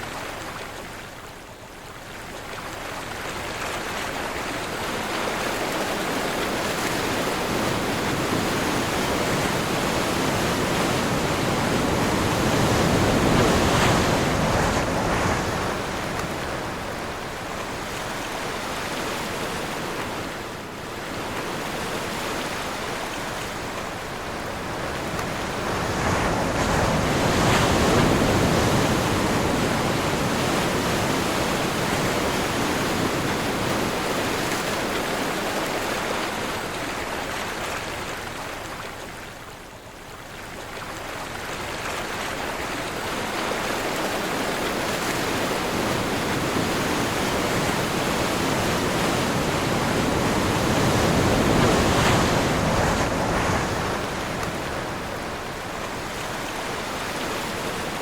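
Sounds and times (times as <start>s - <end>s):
ocean waves breaking: 3.3s - 39.0s, 40.8s - 58.0s.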